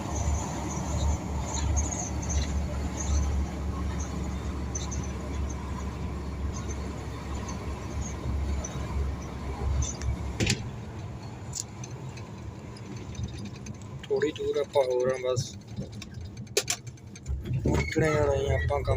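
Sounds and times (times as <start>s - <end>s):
road noise: 0.0s - 18.9s
truck engine droning: 0.0s - 18.9s.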